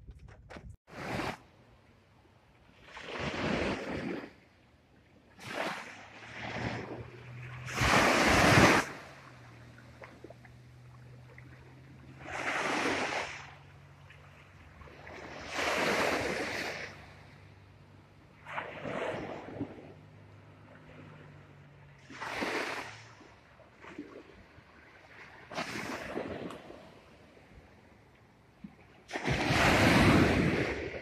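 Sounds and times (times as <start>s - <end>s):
small waves washing on sand: 0.9s - 1.6s, 2.5s - 31.0s.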